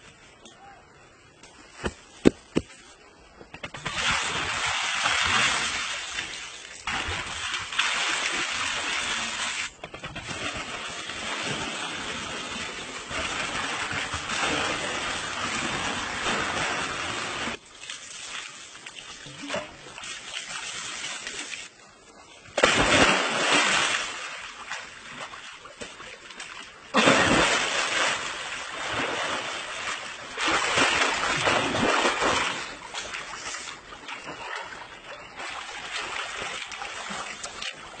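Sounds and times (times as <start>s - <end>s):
water splashing in a pool: 3.7s - 38.0s.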